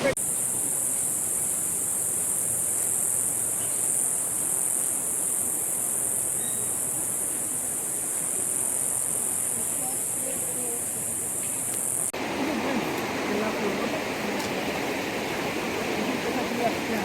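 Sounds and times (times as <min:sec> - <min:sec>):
high-pitched insect chorus drone: 0:00.0 - 0:17.0.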